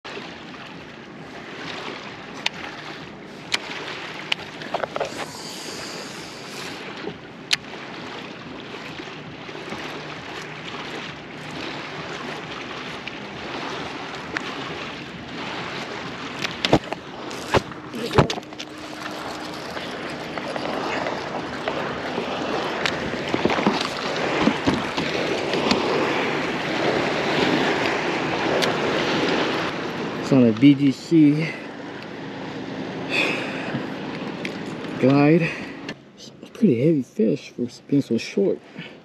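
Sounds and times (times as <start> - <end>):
water lapping against kayak hull: 0.0 - 39.0.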